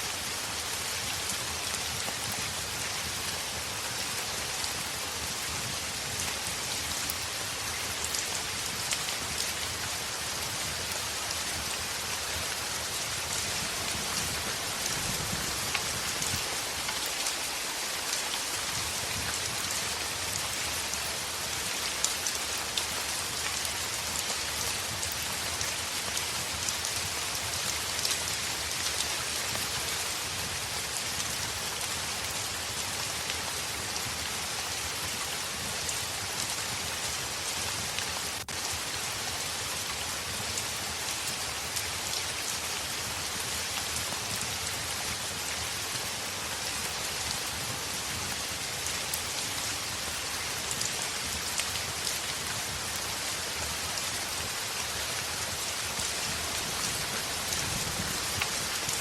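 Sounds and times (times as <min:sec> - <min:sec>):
heavy rain on a window: 0:00.0 - 0:59.0.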